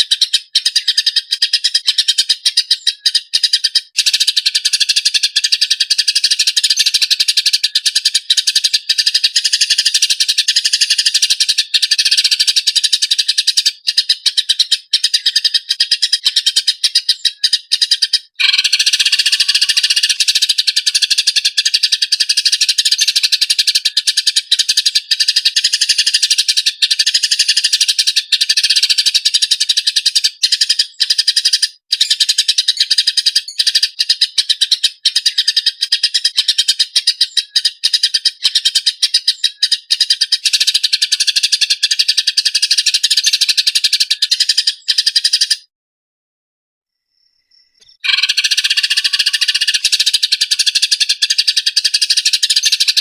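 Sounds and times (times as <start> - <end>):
songbird trilling: 0.0 - 45.7, 47.1 - 53.0.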